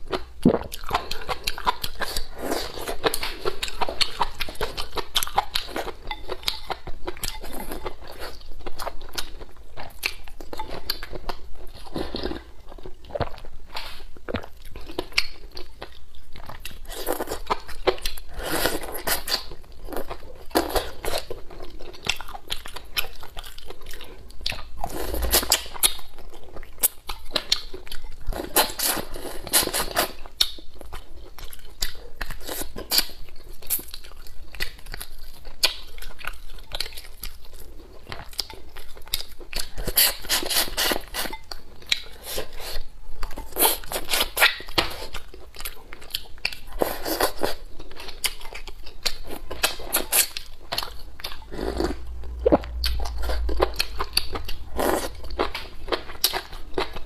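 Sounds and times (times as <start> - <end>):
person chewing with wet mouth clicks: 0.0 - 57.0.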